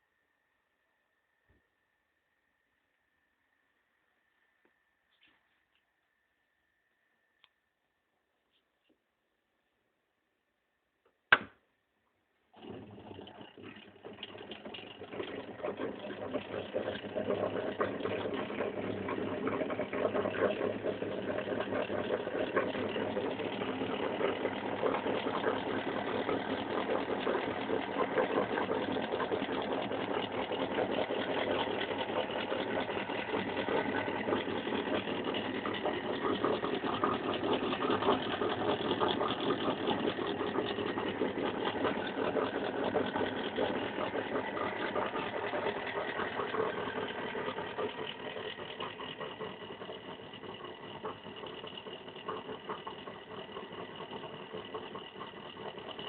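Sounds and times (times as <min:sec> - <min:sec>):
motor-generator running with rough buzz: 0:00.0 - 0:09.0, 0:12.4 - 0:56.0.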